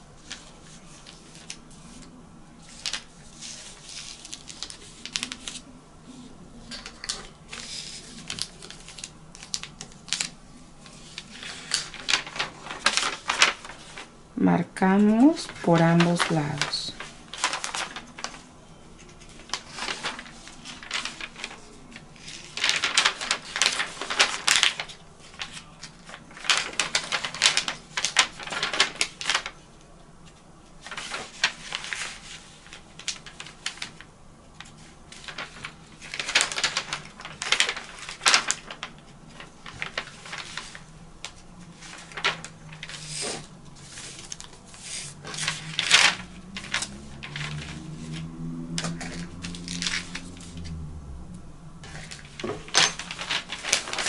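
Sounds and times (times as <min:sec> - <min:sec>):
paper and fabric rustling: 0:00.0 - 0:51.2, 0:51.8 - 0:54.0.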